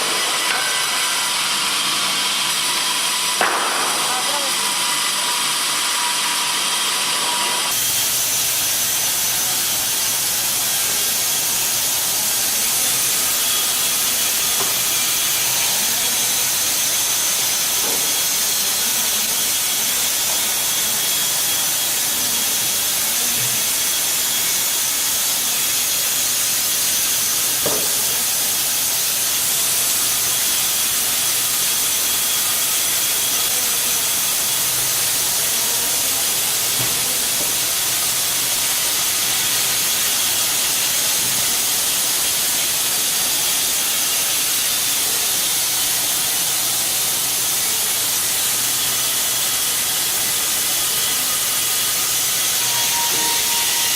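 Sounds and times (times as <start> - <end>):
woodworking machinery hissing: 0.0 - 53.9.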